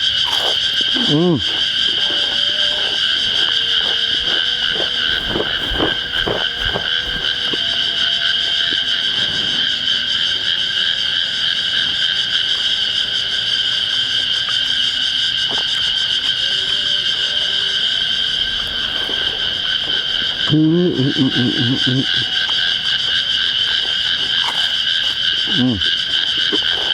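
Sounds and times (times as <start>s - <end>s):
cicadas droning: 0.0s - 26.9s.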